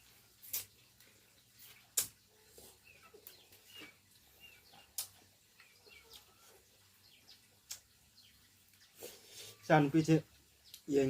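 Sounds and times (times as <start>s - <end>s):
birds chirping: 0.4s - 11.0s.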